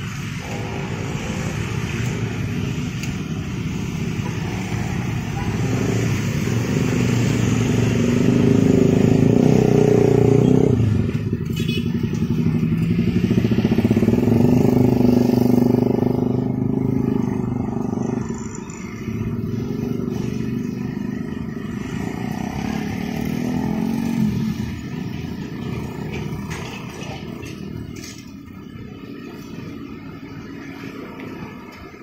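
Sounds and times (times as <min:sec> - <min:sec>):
cars passing: 0:00.0 - 0:32.0
motor scooters passing: 0:00.0 - 0:32.0.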